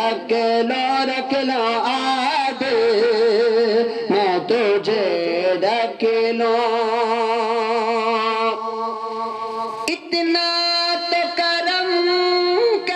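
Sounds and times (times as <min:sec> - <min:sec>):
man chanting into a microphone: 0:00.0 - 0:12.9.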